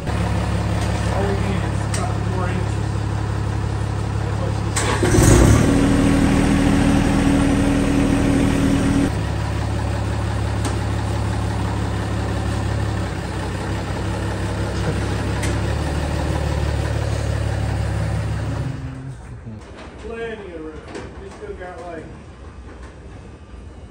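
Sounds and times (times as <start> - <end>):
tractor engine idling: 0.0 - 19.6.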